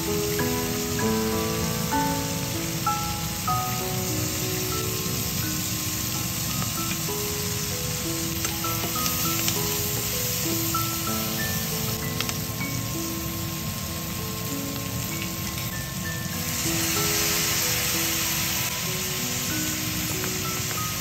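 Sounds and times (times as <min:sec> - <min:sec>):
soft slow background music: 0:00.0 - 0:21.0
vegetables sizzling in a frying pan: 0:00.0 - 0:21.0.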